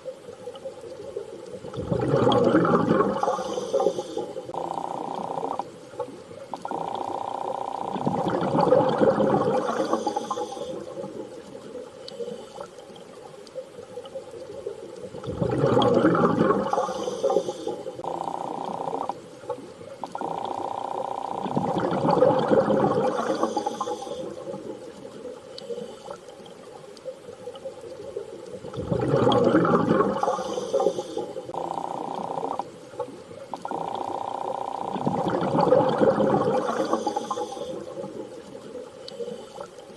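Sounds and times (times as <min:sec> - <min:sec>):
rushing bubbling water: 0:00.0 - 0:39.9.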